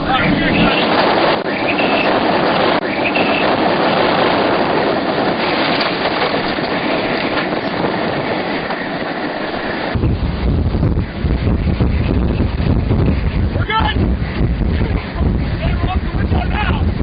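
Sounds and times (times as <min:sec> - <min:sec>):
tornado wind roaring: 0:00.0 - 0:17.0.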